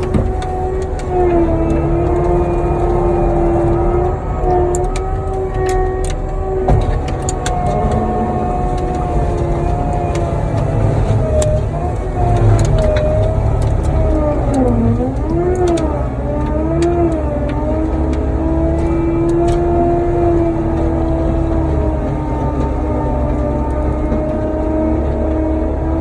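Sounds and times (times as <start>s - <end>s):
diesel engine and mulcher whine: 0.0s - 26.0s.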